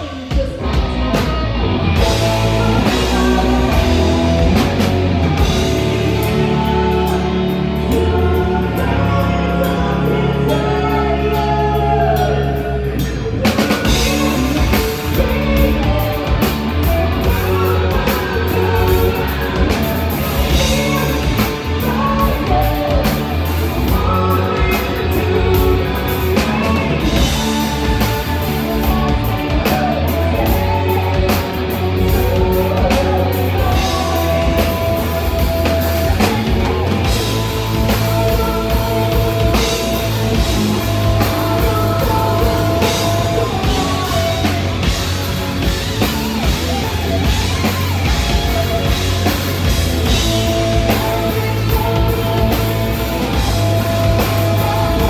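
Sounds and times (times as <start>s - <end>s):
woman singing: 0.0s - 49.3s, 50.0s - 55.0s
distorted electric guitars: 0.0s - 55.0s
pounding drum kit: 0.0s - 55.0s.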